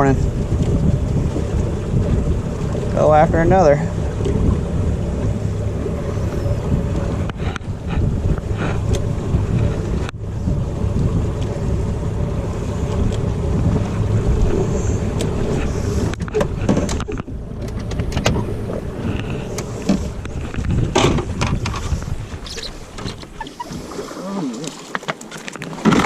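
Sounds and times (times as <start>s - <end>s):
wind buffeting microphone: 0.0s - 24.1s
outboard motor running: 0.0s - 26.0s.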